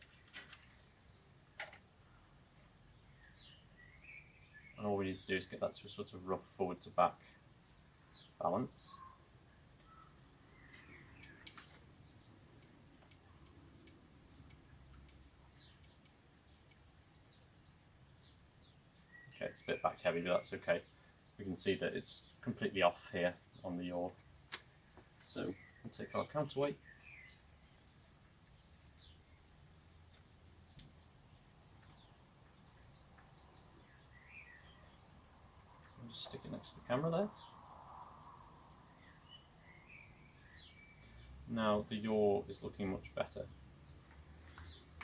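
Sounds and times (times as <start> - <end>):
faint bird chirps: 2.0 - 5.8, 7.2 - 21.5, 23.4 - 42.4.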